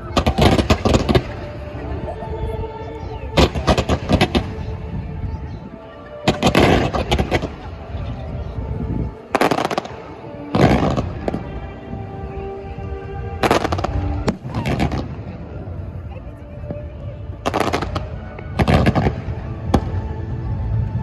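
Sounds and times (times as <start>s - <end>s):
fireworks bangs and crackles: 0.0s - 2.1s, 3.3s - 5.4s, 6.1s - 12.0s, 13.4s - 21.0s
background music: 0.0s - 21.0s.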